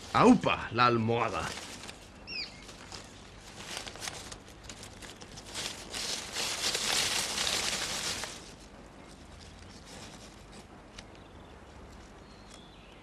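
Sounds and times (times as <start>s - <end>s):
dry grass and leaves rustling: 0.0s - 13.0s.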